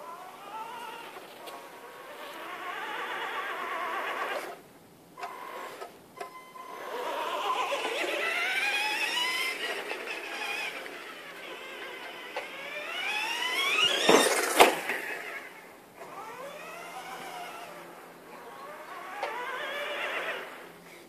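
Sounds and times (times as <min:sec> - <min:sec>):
toy truck electric motor whining: 0:00.0 - 0:04.6, 0:05.2 - 0:21.0.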